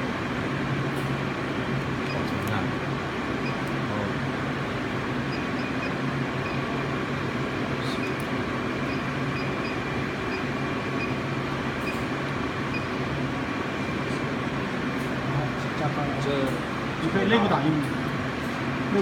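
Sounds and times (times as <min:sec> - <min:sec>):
printer mechanical hum and hiss: 0:00.0 - 0:19.0.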